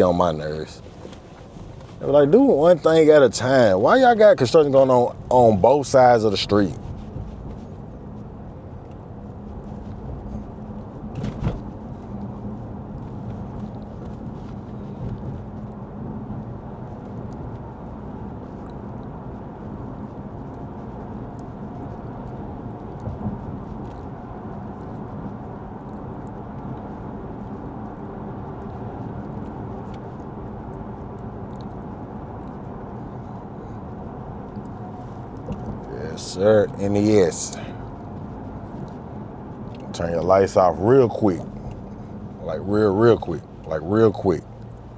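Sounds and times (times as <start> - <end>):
road and engine noise in car: 0.0 - 44.9.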